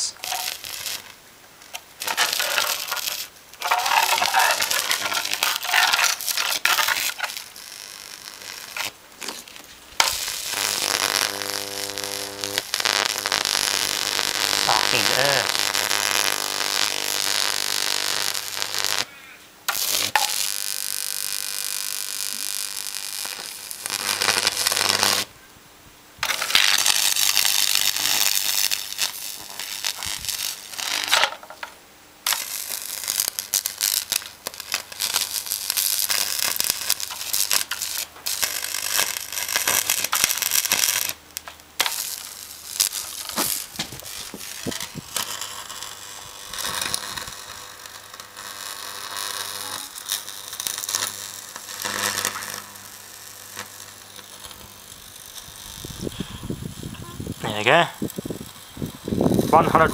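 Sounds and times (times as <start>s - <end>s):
electric arc crackling buzz: 0.0s - 25.3s, 26.2s - 59.9s.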